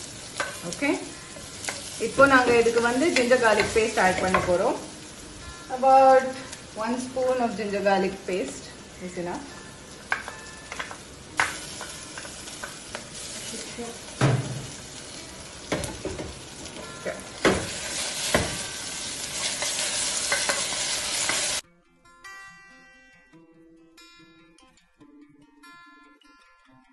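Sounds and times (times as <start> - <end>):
acoustic guitar music: 0.0 - 20.7, 21.6 - 26.9
onions sizzling in oil: 0.0 - 21.6.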